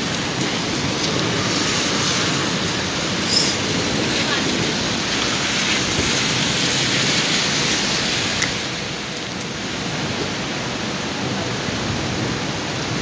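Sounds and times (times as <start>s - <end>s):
heavy rain on pavement and cars: 0.0s - 13.0s.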